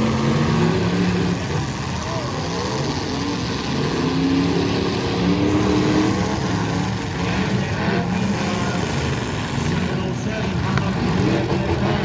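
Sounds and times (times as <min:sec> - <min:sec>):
car engines idling unevenly: 0:00.0 - 0:12.0.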